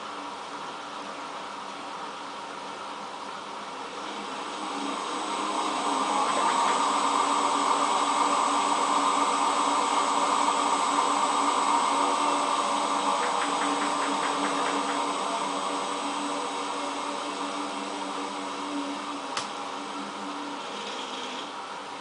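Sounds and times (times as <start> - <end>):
washing machine spinning: 2.5 - 22.0.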